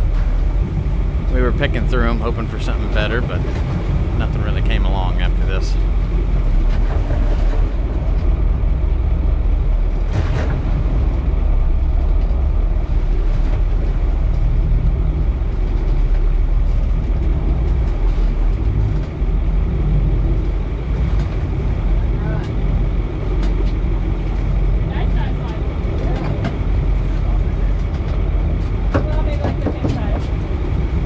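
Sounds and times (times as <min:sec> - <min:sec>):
boat engine low rumble: 0:00.0 - 0:31.0.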